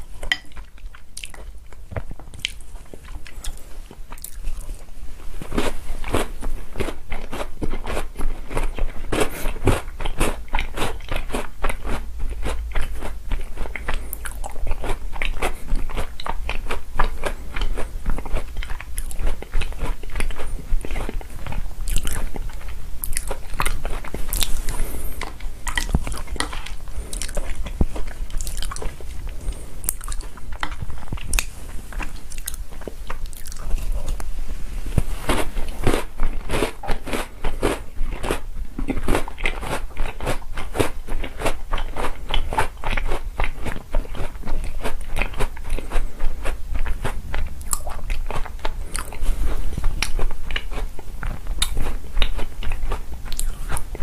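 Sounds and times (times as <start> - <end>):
crunching cookies: 0.0 - 34.3, 35.0 - 54.0.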